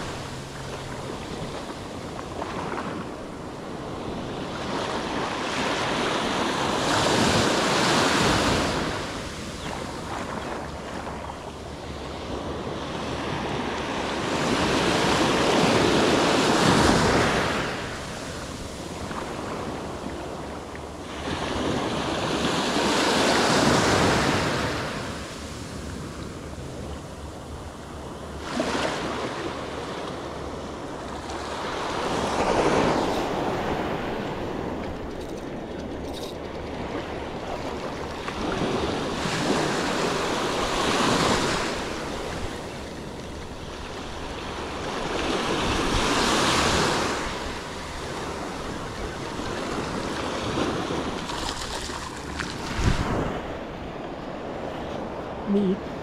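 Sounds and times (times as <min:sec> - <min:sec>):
ocean waves breaking: 0:00.0 - 0:56.0
wind rumbling on microphone: 0:00.0 - 0:56.0.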